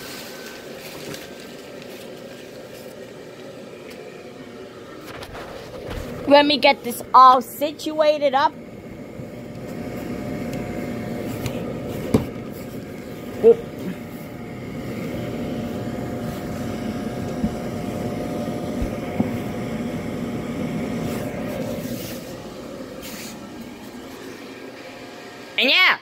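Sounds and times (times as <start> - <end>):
blower fan humming: 0.0 - 26.0.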